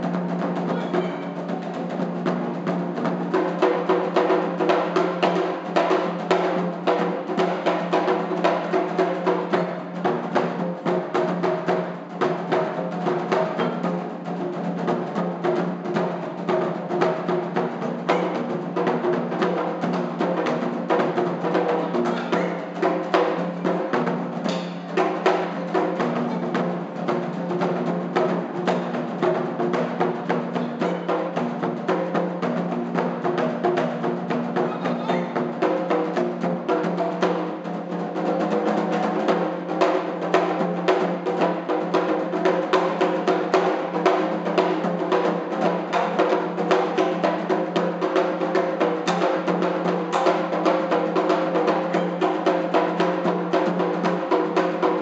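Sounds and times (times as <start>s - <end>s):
taiko drums ensemble: 0.0s - 55.0s.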